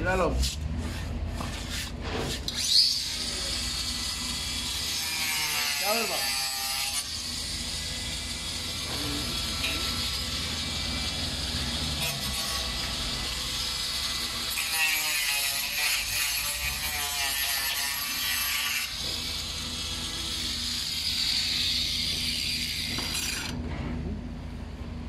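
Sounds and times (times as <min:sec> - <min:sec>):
power tool cutting board: 0:00.9 - 0:23.6.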